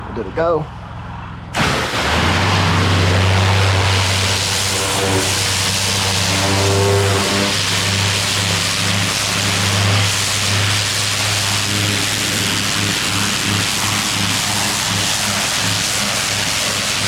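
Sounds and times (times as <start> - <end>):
low engine hum: 1.5 - 17.0
pressure washer spray hissing: 1.6 - 17.0.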